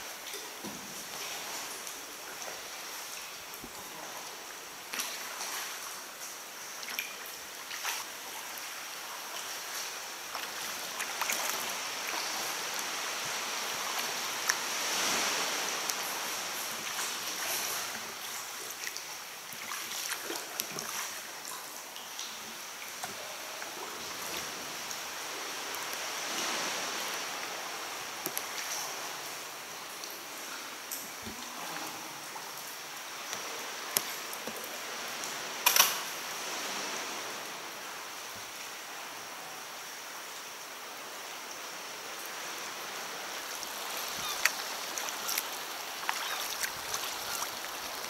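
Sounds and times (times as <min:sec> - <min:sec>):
paddle splashes: 0:00.0 - 0:38.6, 0:42.2 - 0:48.0
water lapping in a cave: 0:00.0 - 0:48.0.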